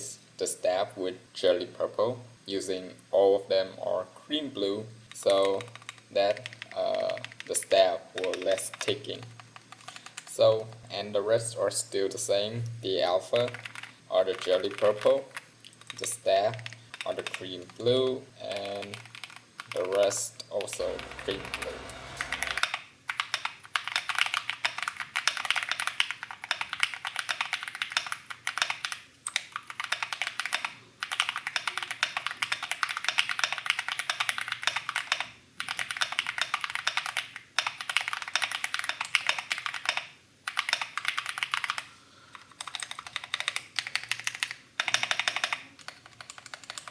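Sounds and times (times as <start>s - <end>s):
mechanical keyboard typing: 5.1s - 10.8s, 13.4s - 46.9s.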